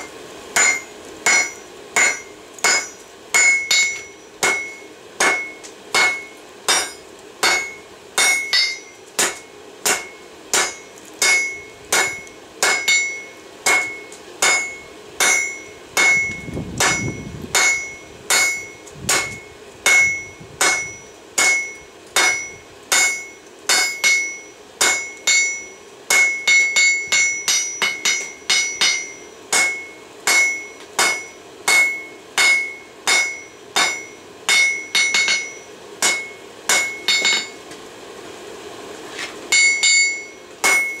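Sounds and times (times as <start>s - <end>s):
hammer striking hot metal on anvil: 0.0s - 37.7s, 39.5s - 41.0s
high ring of anvil: 0.6s - 37.6s, 39.5s - 41.0s.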